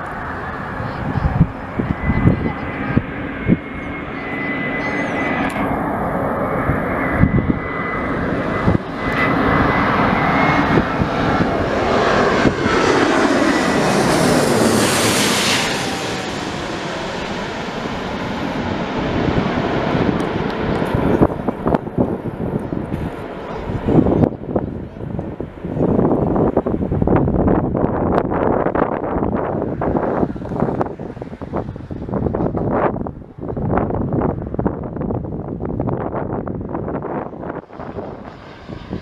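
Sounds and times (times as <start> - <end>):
jet engine passing overhead: 0.0 - 39.0.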